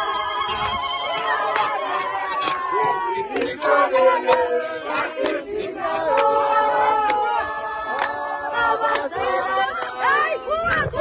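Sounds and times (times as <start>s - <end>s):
group of people singing: 0.0s - 11.0s
hands clapping in time: 0.5s - 4.5s, 5.1s - 5.4s, 6.0s - 11.0s.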